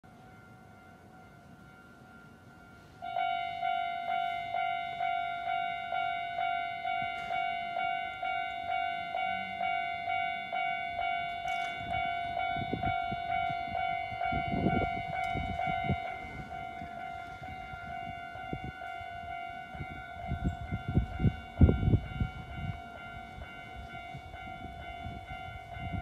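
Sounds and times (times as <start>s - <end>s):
level crossing bell clanging: 0.1s - 26.0s.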